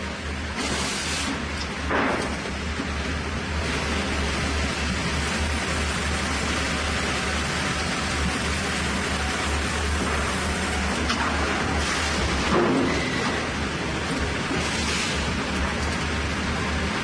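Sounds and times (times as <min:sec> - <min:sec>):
low machinery hum: 0:00.0 - 0:17.0
rushing machinery noise: 0:00.0 - 0:17.0.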